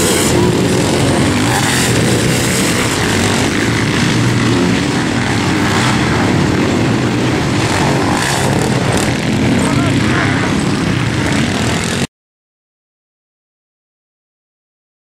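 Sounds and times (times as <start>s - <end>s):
racing engines running hard: 0.0s - 12.1s.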